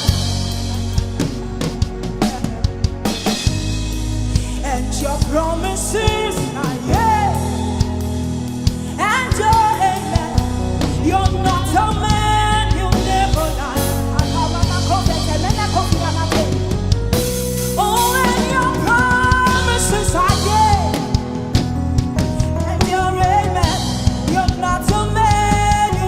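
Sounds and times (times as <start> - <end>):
gospel band with drums and bass: 0.0 - 26.0
person singing: 4.3 - 16.8, 17.6 - 26.0.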